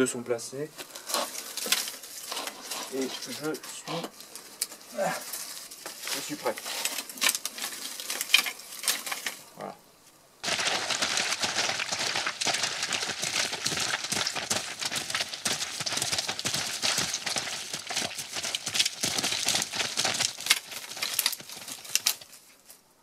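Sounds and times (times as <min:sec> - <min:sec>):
branches crackling and snapping: 0:00.8 - 0:09.5, 0:10.4 - 0:22.8.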